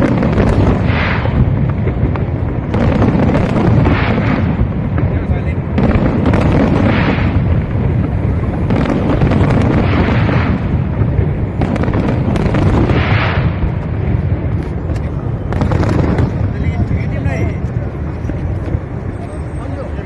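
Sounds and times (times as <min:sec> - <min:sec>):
sharp firework bangs: 0:00.0 - 0:19.1
fireworks booming: 0:00.0 - 0:20.0.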